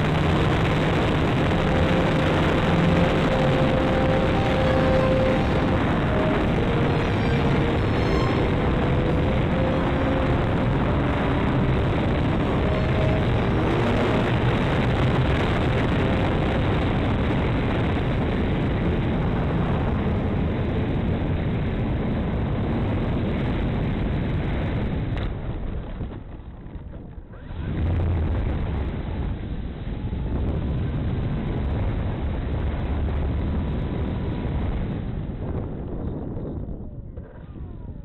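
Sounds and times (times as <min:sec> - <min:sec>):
wind rushing over microphone: 0:00.0 - 0:26.3, 0:27.6 - 0:38.0.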